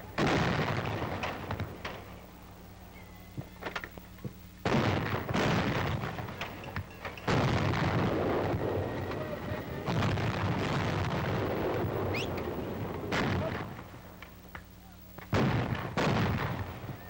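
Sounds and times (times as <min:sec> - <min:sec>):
anti-aircraft guns firing: 0:00.2 - 0:02.2, 0:04.6 - 0:14.5, 0:15.2 - 0:17.0.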